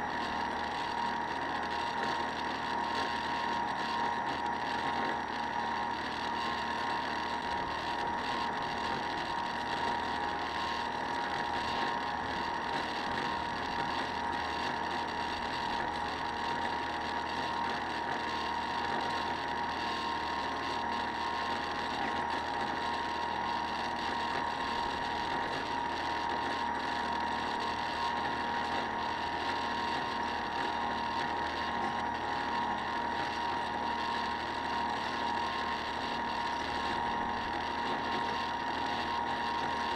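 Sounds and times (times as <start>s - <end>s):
model boat motor whine: 0.0s - 39.9s.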